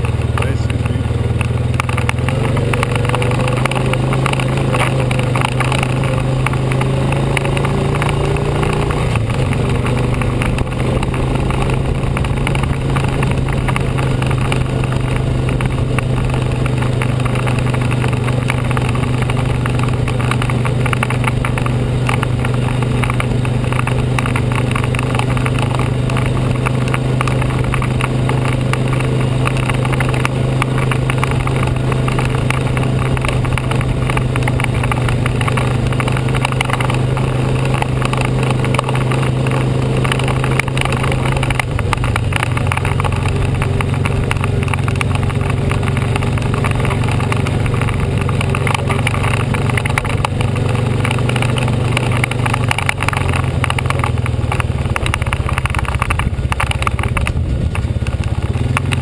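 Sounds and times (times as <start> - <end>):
atv engine running: 0.0 - 59.0
rattles and small knocks: 0.0 - 59.0.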